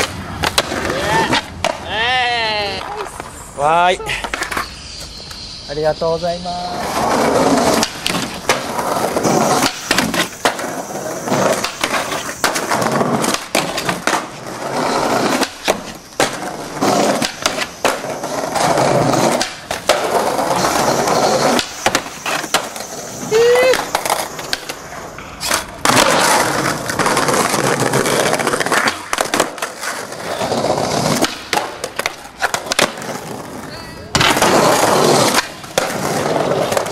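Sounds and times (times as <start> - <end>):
skateboard tail clacks: 0.0 - 3.4, 6.8 - 36.9
skateboard wheels rolling on paving: 0.0 - 36.9.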